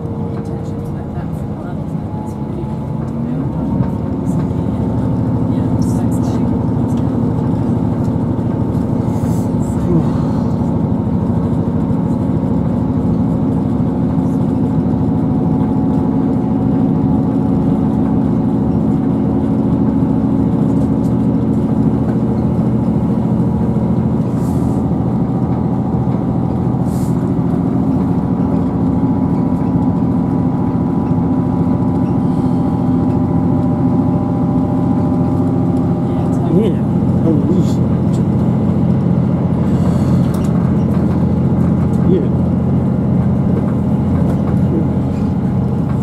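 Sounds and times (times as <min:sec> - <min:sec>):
train diesel engine drone: 0:00.0 - 0:46.0
wheels rumbling on rail: 0:00.0 - 0:46.0.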